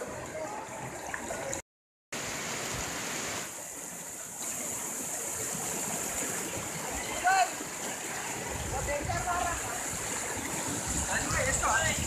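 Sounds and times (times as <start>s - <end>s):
floodwater rushing: 0.0s - 1.6s, 2.2s - 12.0s.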